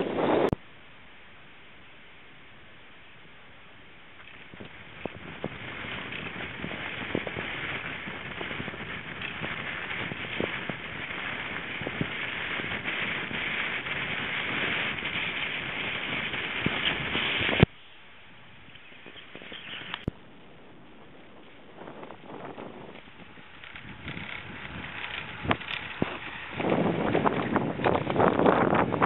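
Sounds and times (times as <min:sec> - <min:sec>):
wind rushing over microphone: 0:00.0 - 0:00.6, 0:04.3 - 0:17.7, 0:18.4 - 0:29.0.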